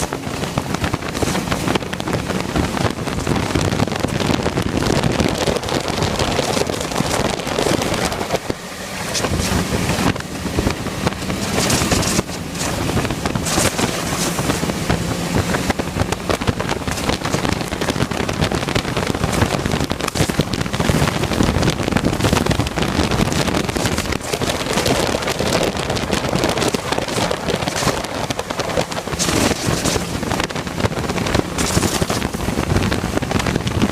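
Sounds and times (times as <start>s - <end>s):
wind buffeting microphone: 0.0s - 33.9s.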